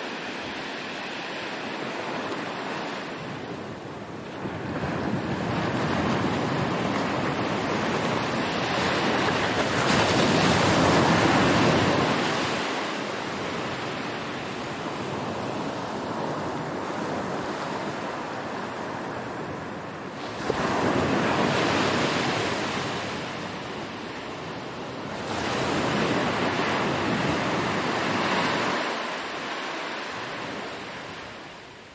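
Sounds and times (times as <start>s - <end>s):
ocean waves washing in: 0.0s - 31.9s.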